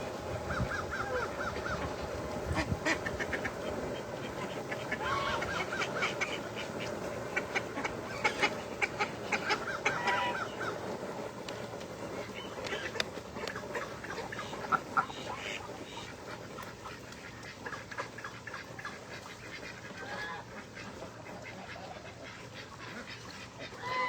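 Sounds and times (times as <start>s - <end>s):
ducks and geese calling: 0.0s - 24.0s.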